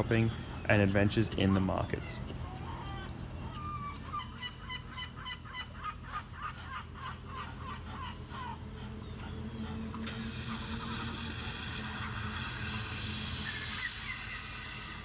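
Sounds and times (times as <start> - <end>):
fowl calling: 0.0 - 14.9
steady low hum: 0.0 - 15.0.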